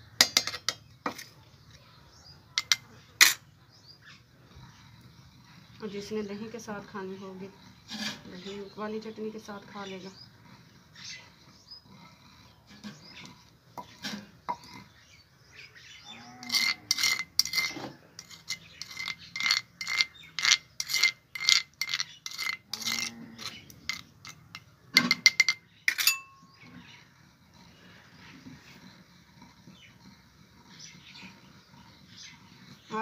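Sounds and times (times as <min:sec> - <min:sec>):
spoon scraping paste: 0:00.3 - 0:15.2, 0:15.8 - 0:32.9.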